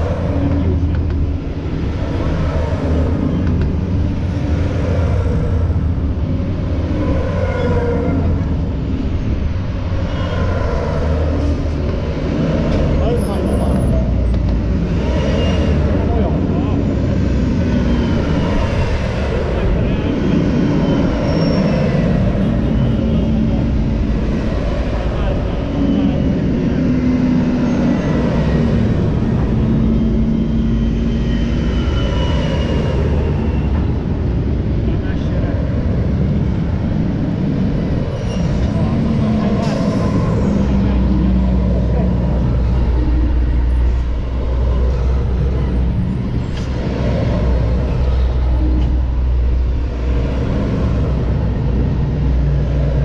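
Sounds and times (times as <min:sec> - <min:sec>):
military trucks driving past: 0:00.0 - 0:53.0.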